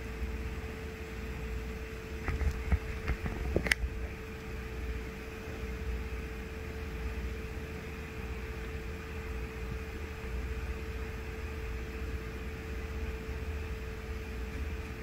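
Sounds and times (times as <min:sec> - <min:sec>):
machine hum with constant tone: 0:00.0 - 0:15.0.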